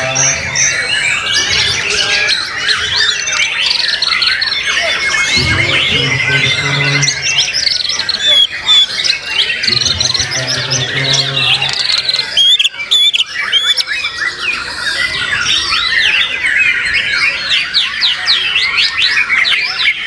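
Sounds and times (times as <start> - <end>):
birds singing: 0.0 - 20.0.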